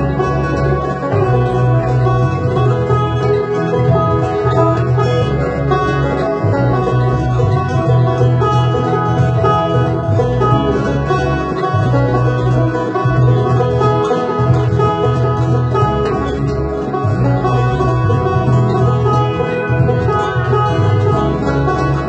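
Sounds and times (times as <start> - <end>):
banjo picking: 0.0 - 22.0
bass line: 0.0 - 22.0.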